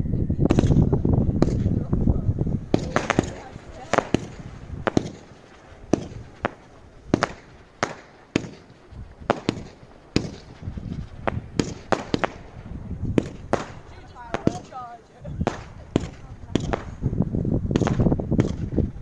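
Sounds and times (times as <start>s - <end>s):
fireworks bangs: 0.4s - 19.0s.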